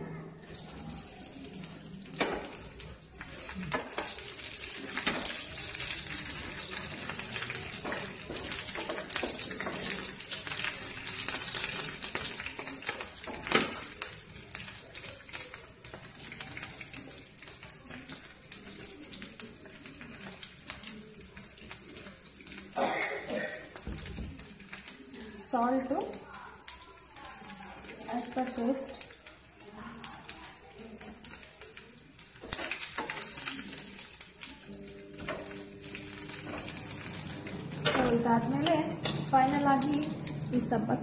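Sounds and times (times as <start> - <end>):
food sizzling in hot oil: 0.4 - 41.0.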